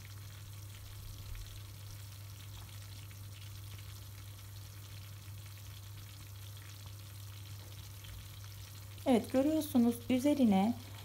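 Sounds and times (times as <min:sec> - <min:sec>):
pot bubbling and sizzling: 0:00.0 - 0:11.0.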